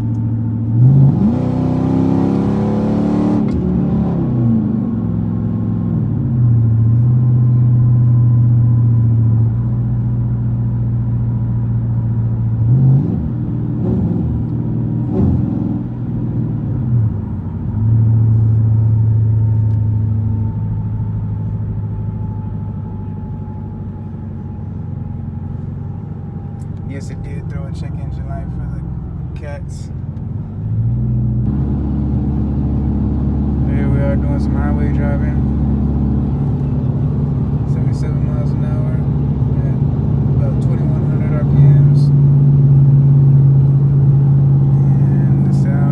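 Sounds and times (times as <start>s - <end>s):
car exhaust low drone: 0.0s - 45.9s.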